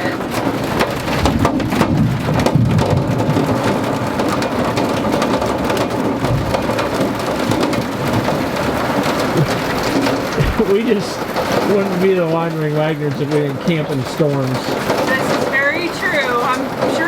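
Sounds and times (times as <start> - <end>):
heavy rain and hail: 0.0 - 17.0
low thunder rumbling: 0.0 - 17.0.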